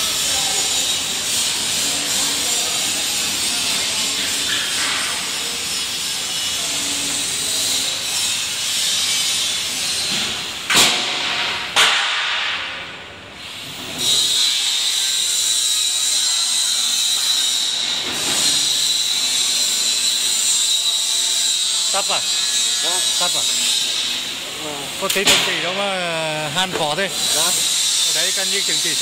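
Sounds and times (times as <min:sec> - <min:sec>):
steady welding hiss: 0:00.0 - 0:29.0.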